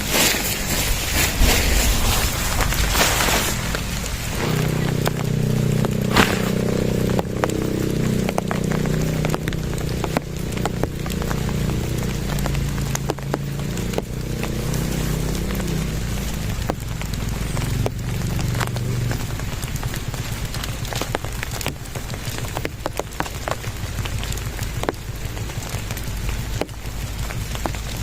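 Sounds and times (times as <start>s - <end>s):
low steady drone: 0.0s - 22.4s
rain drops ticking: 0.0s - 28.0s.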